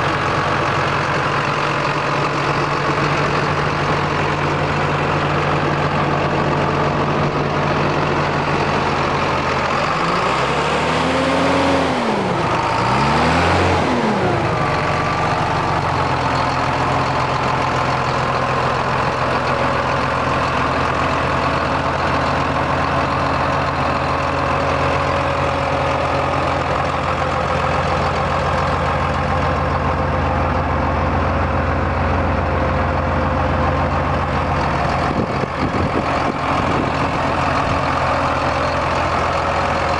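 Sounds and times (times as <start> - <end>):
tractor diesel engine idling and revving: 0.0 - 39.9.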